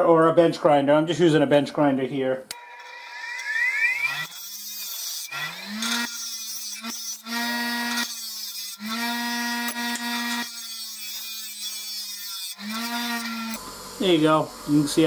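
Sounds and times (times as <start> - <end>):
bench grinder humming: 2.6 - 15.0.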